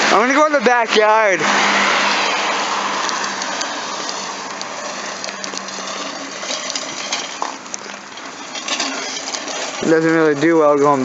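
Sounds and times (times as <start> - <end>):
push reel lawnmower whirring: 0.0 - 11.0.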